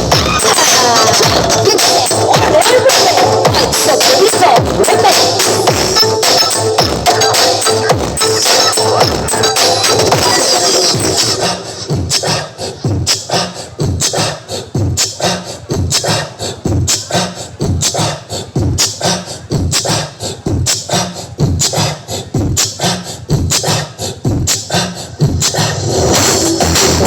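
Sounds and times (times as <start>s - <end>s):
bass-heavy music over loudspeakers: 0.0s - 27.0s.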